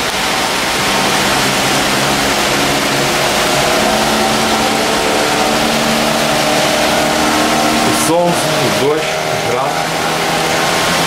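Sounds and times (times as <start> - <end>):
heavy rain pouring: 0.0 - 11.0
traffic engine hum: 0.0 - 11.0.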